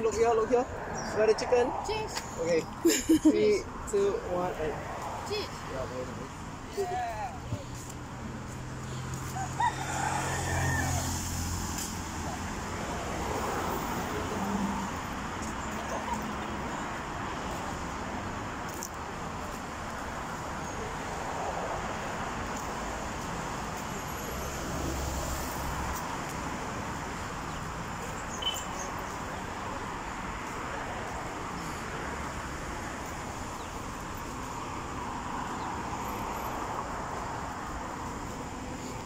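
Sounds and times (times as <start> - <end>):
road traffic hum: 0.0 - 39.0.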